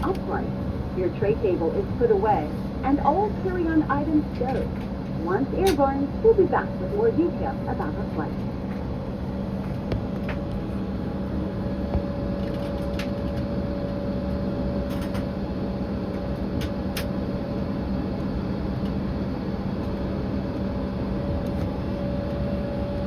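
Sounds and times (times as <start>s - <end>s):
jet airliner cabin hum: 0.0s - 23.0s.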